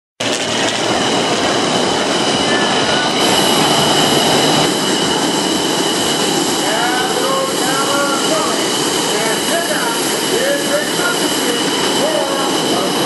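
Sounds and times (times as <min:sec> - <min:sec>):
propeller aircraft engines overhead: 0:00.2 - 0:13.0.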